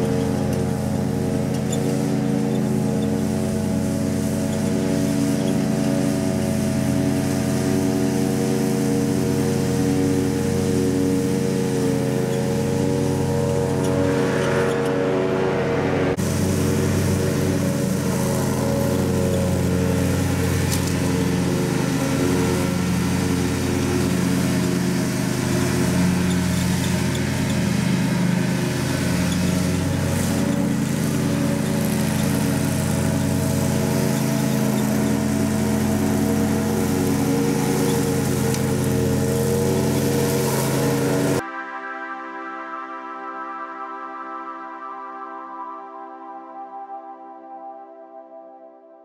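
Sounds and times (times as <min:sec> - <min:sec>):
mower blades cutting grass: 0:00.0 - 0:41.4
riding lawn mower engine running: 0:00.0 - 0:41.5.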